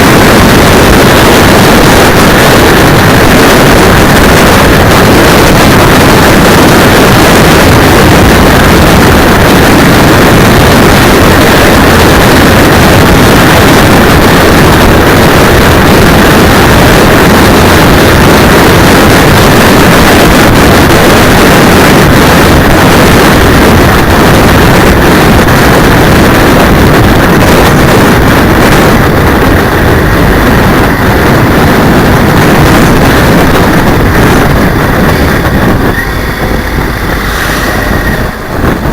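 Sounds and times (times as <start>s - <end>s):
motorcycle engine: 0.0s - 38.9s
wind buffeting microphone: 0.0s - 38.9s.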